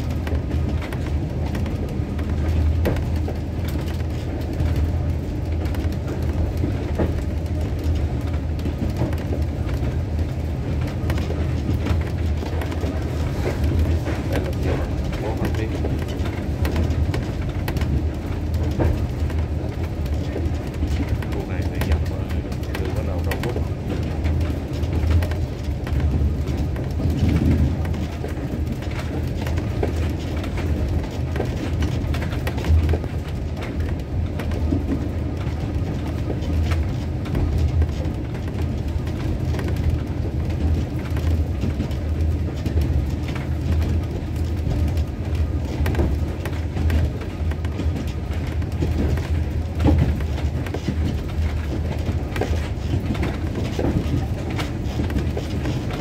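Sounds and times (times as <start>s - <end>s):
train rumble from on board: 0.0s - 56.0s
wheel clicks on rails: 0.0s - 56.0s.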